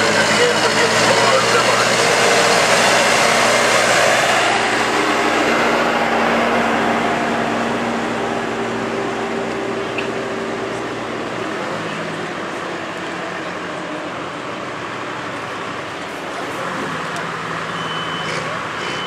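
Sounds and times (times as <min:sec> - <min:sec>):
broad rushing noise: 0:00.0 - 0:17.7
diesel loader engine droning: 0:00.0 - 0:19.0.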